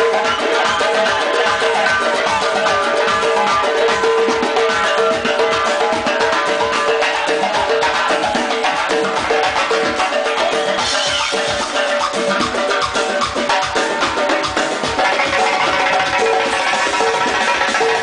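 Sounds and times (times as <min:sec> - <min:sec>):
band accompaniment: 0:00.0 - 0:18.0
frame drum with rings played fast: 0:00.0 - 0:18.0.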